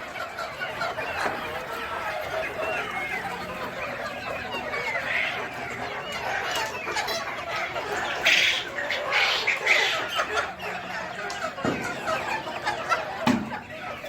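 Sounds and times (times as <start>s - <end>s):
chicken squawks: 0.0s - 14.0s
chickens clucking: 0.0s - 14.0s.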